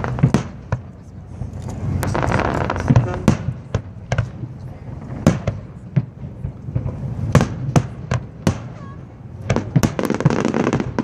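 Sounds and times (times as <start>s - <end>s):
crackling firework reports: 0.0s - 11.0s.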